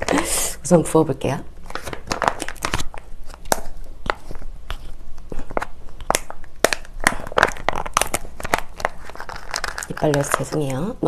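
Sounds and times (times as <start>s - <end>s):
plastic pouch crinkling: 1.6s - 11.0s.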